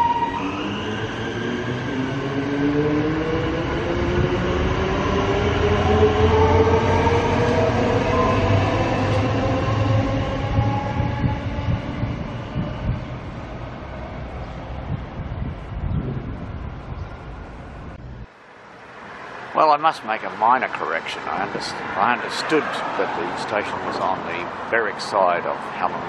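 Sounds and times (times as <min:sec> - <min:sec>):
low train rumble: 0:00.0 - 0:26.0.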